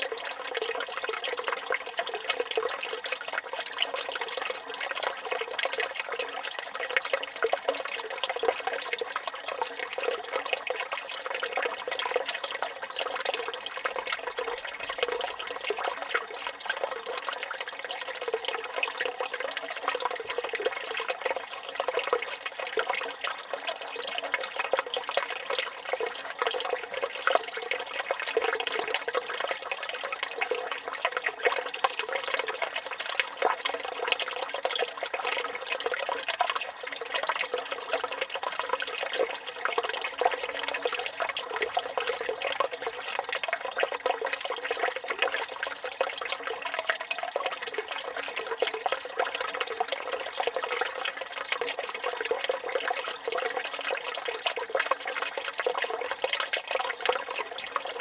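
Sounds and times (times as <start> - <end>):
fountain water pouring and splashing: 0.0 - 58.0.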